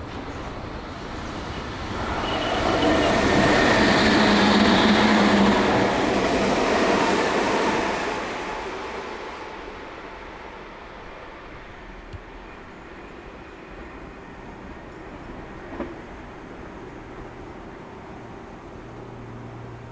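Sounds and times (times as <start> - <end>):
electric train passing: 0.0 - 19.9.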